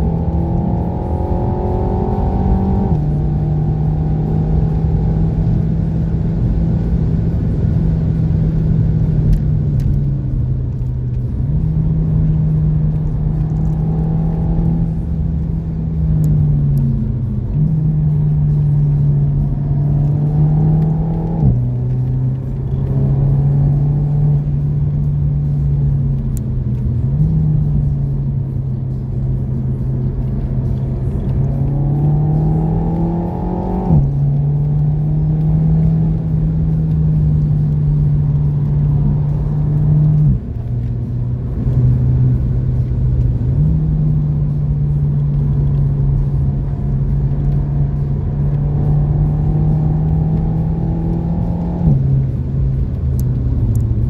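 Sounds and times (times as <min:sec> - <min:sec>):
car engine at high revs: 0:00.0 - 0:54.0
road and tyre rumble: 0:00.0 - 0:54.0.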